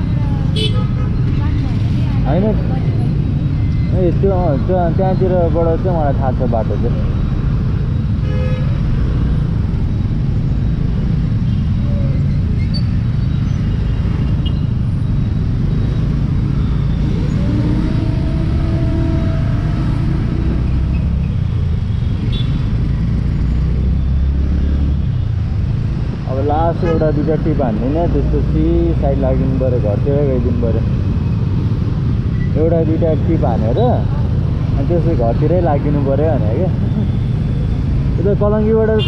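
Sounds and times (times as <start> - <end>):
traffic rumble from scooter: 0.0 - 39.0.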